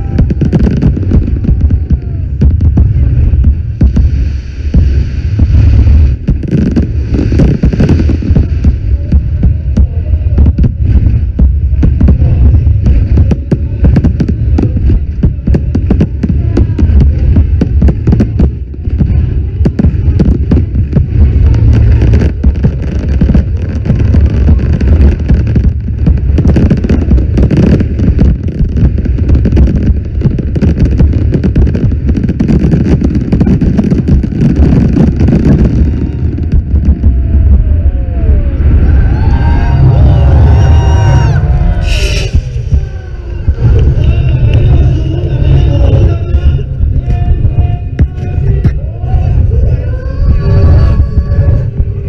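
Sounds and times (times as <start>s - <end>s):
fireworks cracking and popping: 0.0s - 37.8s, 38.4s - 52.0s
low rumble: 0.0s - 52.0s.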